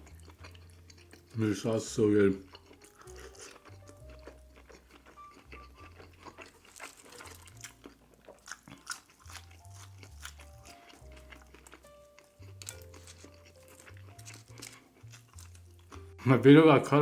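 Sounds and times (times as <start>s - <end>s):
crunching and wet chewing: 0.0s - 16.3s
soft background music: 0.0s - 17.0s.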